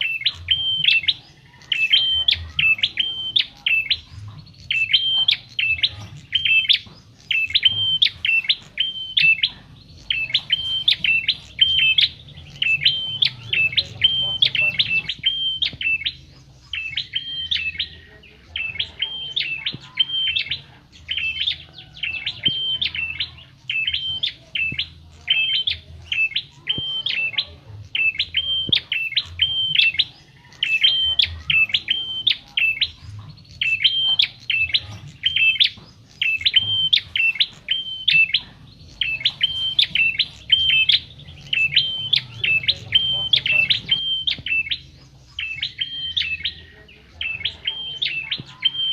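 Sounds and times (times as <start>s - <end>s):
songbird chattering song: 0.0s - 48.9s.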